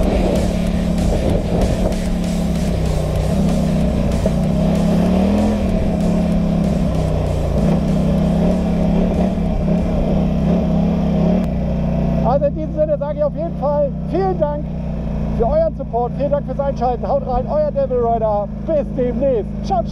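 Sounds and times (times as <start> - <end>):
atv engine running: 0.0 - 19.9
wind: 0.0 - 19.9.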